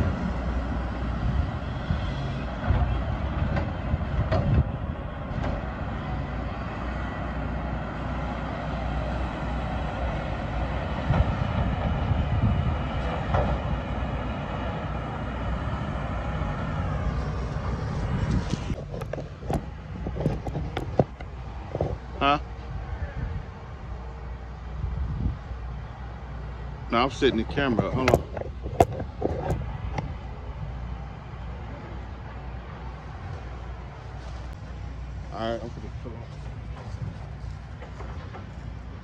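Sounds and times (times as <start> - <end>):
heavy diesel engines running: 0.0 - 39.0.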